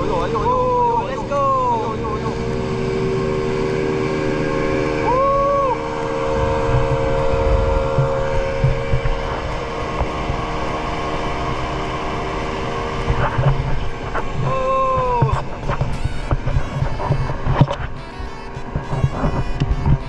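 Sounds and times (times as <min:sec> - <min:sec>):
motor humming: 0:00.0 - 0:20.0
rising and falling tone: 0:00.0 - 0:20.0
wind on microphone: 0:00.0 - 0:20.0.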